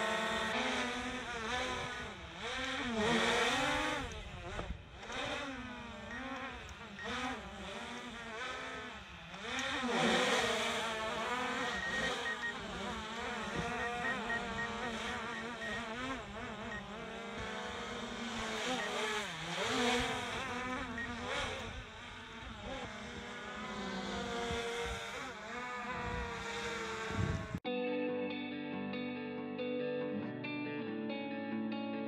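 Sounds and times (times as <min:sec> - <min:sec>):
drone propellers buzzing: 0:00.0 - 0:27.6.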